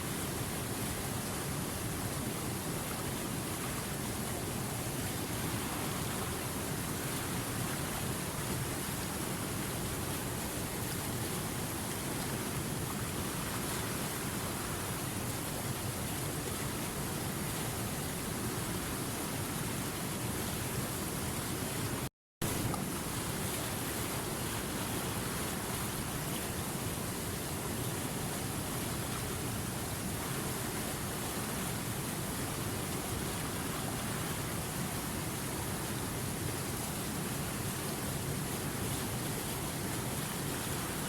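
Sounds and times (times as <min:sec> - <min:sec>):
river water rushing: 0:00.1 - 0:41.0.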